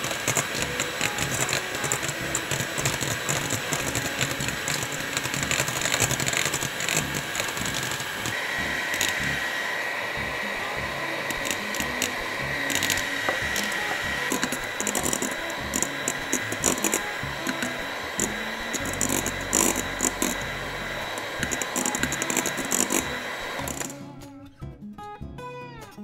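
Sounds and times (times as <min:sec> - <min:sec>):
electric hand mixer whine: 0:00.0 - 0:24.0.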